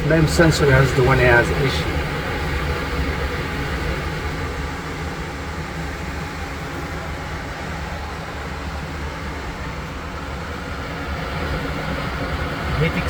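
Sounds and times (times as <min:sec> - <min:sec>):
furnace blower rush: 0:00.0 - 0:13.0
low hum: 0:00.0 - 0:13.0.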